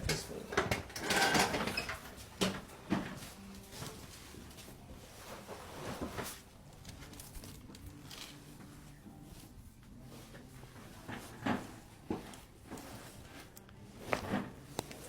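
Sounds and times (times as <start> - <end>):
rustling: 2.0 - 15.0
soft shuffling: 2.0 - 15.0.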